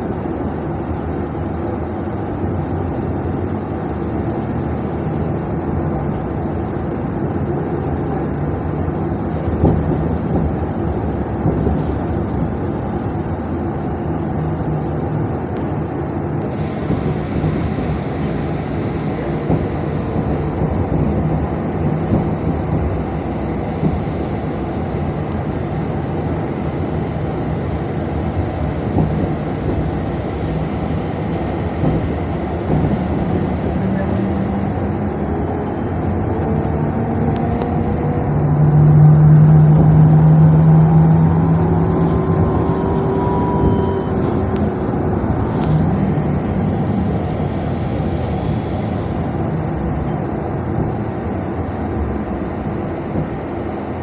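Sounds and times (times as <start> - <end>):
trolleybus running with road noise: 0.0 - 54.0.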